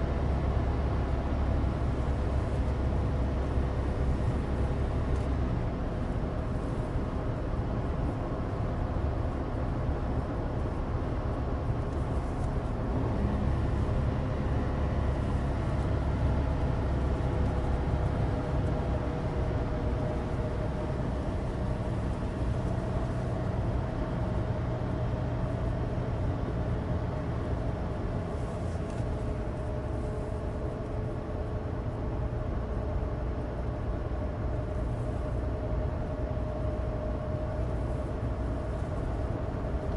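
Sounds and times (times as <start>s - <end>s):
car engine drone: 0.0s - 39.9s
road rumble from tyres: 0.0s - 39.9s.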